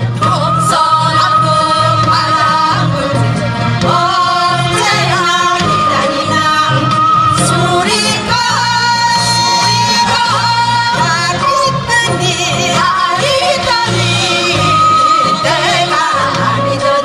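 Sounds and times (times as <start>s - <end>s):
held bass notes: 0.0s - 17.0s
instrumental backing: 0.0s - 17.0s
women singing with vibrato: 0.0s - 17.0s.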